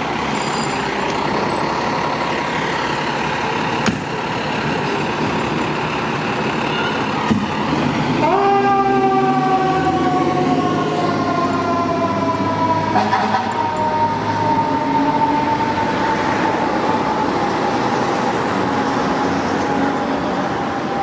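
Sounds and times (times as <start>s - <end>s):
diesel engine pulling away: 0.0s - 21.0s.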